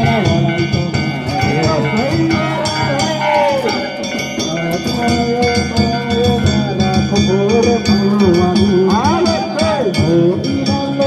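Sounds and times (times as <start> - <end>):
voices chanting: 0.0 - 9.4
drums beaten in steady rhythm: 0.0 - 11.0.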